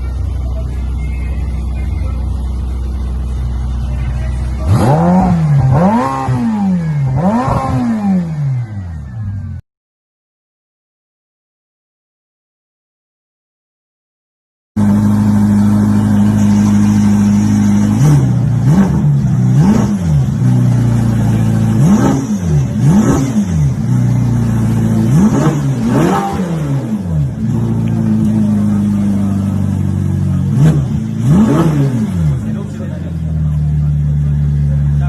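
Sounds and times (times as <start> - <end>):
car engine idling and revving: 0.0 - 9.6, 14.8 - 35.0.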